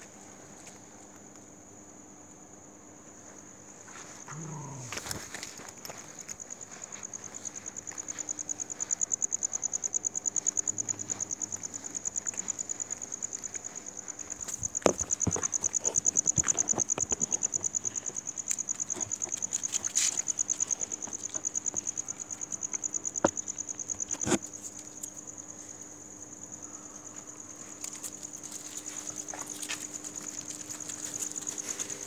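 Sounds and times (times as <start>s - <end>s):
cricket chirping: 0.0s - 32.0s.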